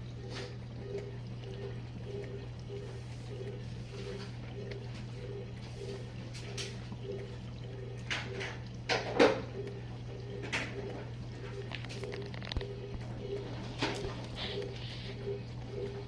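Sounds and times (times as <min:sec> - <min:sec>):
dishwasher pump motor hum: 0:00.0 - 0:16.0.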